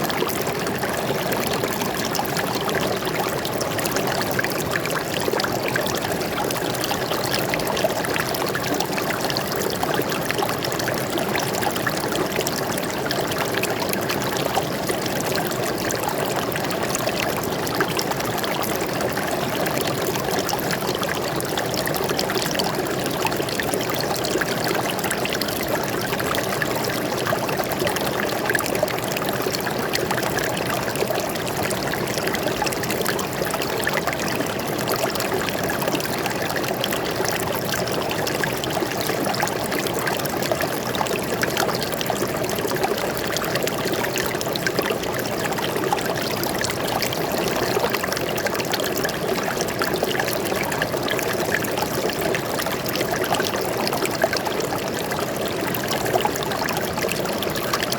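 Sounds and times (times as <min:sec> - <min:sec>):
stream babbling over stones: 0:00.0 - 0:57.9.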